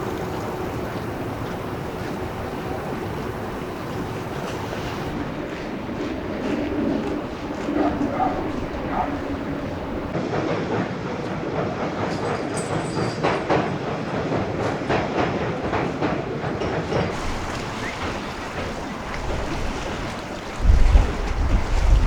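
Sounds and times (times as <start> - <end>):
train wheels clacking on rails: 0.0 - 22.0.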